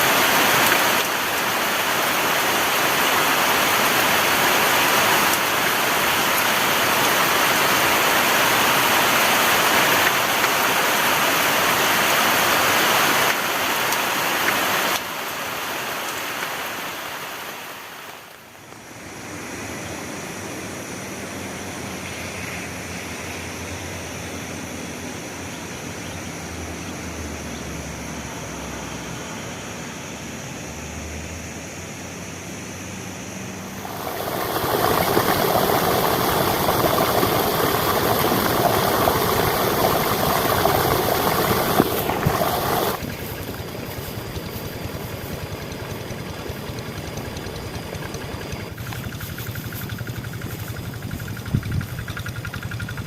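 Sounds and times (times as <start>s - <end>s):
heavy rain hiss: 0.0s - 52.3s
quieter rain hiss: 0.0s - 52.6s.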